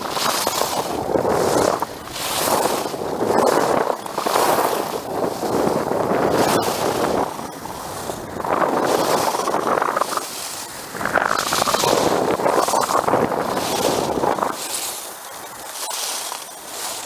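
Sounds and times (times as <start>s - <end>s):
wind on microphone: 0.0s - 17.0s
snow sliding hiss: 0.1s - 17.0s.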